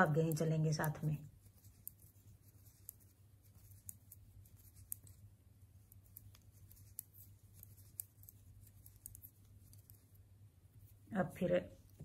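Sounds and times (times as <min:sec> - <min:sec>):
knitting needles clicking: 0:00.0 - 0:10.2
low steady hum: 0:00.0 - 0:12.0.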